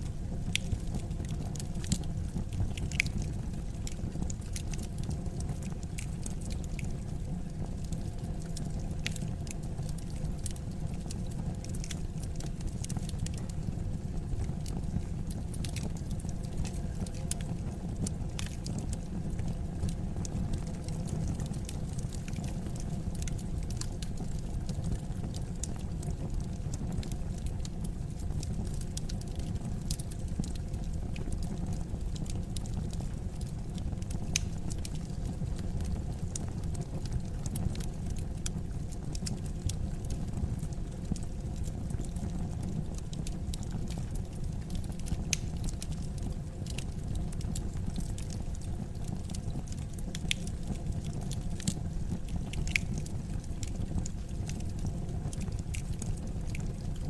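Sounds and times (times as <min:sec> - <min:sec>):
burning logs crackling and popping: 0:00.0 - 0:57.0
low rumble of flames: 0:00.0 - 0:57.0.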